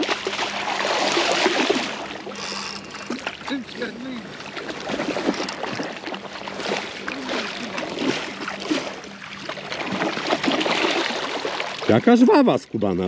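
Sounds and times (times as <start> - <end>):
river water gurgling: 0.0 - 12.6.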